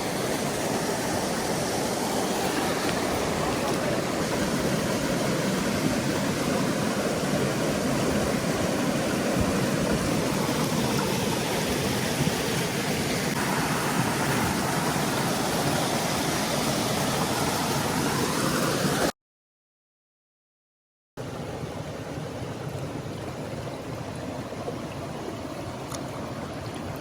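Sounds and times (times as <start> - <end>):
mountain stream rushing: 0.0 - 19.1, 21.2 - 27.0.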